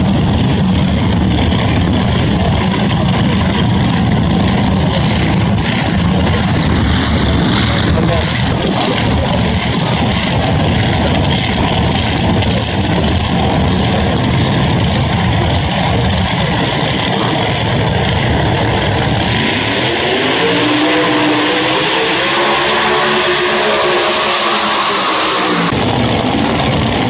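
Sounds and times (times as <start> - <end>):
engine accelerating: 0.0 - 27.0
loud rough racing car engine: 0.0 - 27.0.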